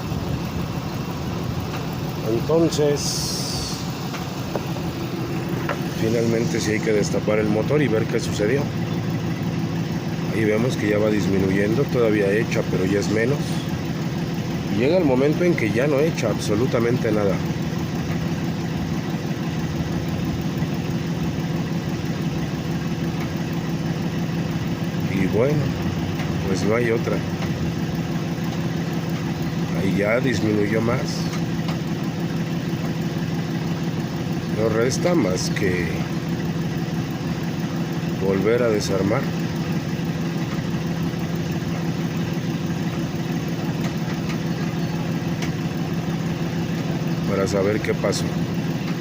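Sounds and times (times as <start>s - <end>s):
van engine idling: 0.0s - 49.0s.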